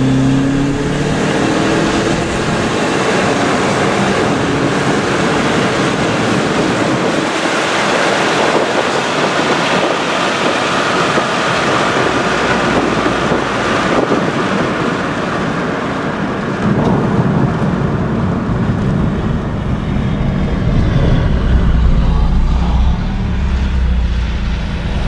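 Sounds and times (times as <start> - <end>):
low engine and tyre drone: 0.0 - 25.0
wind and road noise: 0.0 - 25.0.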